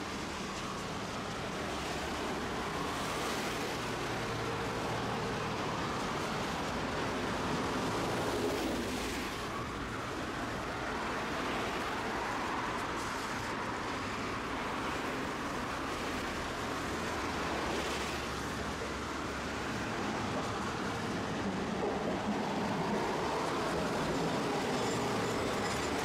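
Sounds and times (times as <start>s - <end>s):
streetcar wheels and motor rumbling: 0.0s - 26.0s.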